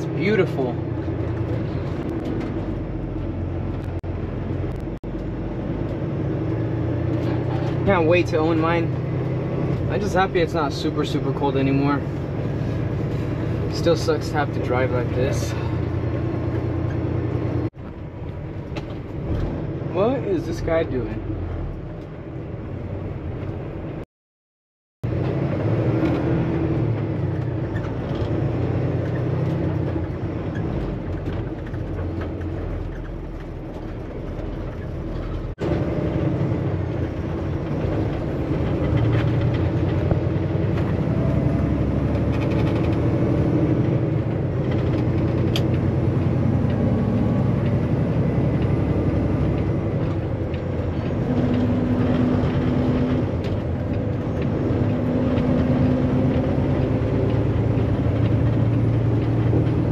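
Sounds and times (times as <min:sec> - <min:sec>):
truck engine and road drone: 0:00.0 - 0:24.1, 0:25.0 - 0:59.9.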